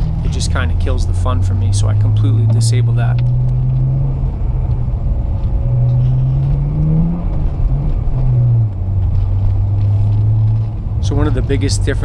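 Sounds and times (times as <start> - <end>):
car engine revving under load: 0.0 - 12.0.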